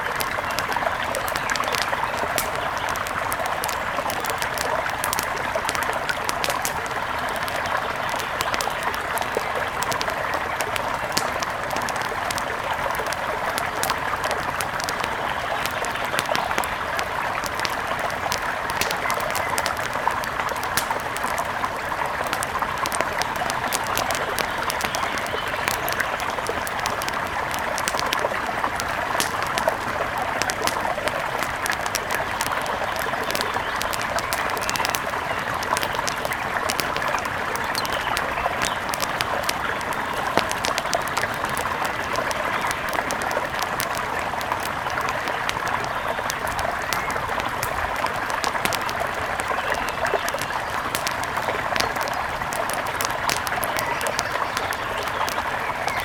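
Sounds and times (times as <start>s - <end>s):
river water flowing: 0.0s - 56.0s
wood fire crackling and popping: 0.0s - 56.0s.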